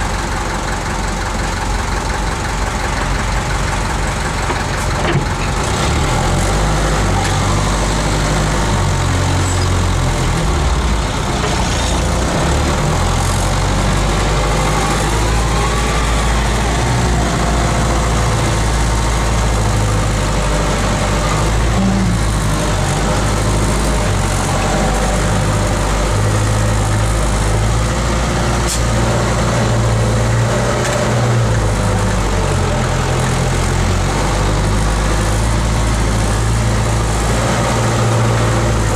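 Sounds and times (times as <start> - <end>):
truck diesel engine revving: 0.0 - 38.9.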